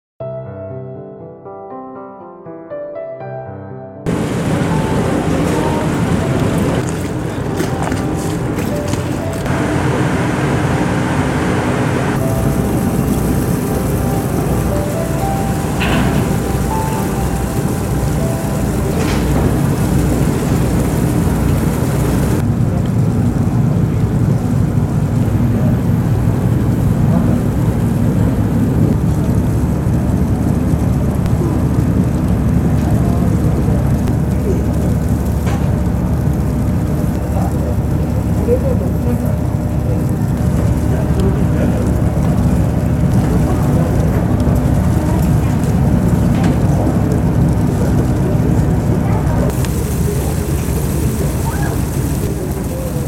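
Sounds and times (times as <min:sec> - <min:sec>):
water hiss: 0:04.1 - 0:22.8, 0:23.8 - 0:53.0
rushing noise: 0:04.1 - 0:53.0
ship engines rumbling: 0:04.1 - 0:53.0
wind: 0:04.1 - 0:53.0.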